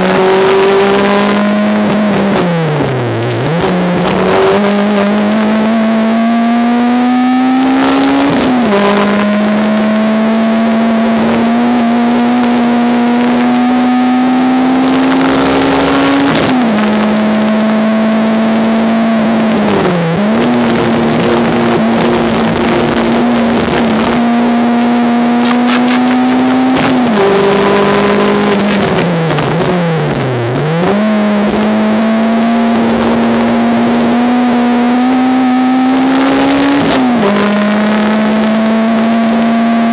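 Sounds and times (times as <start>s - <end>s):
car engine revving hard: 0.0s - 39.9s.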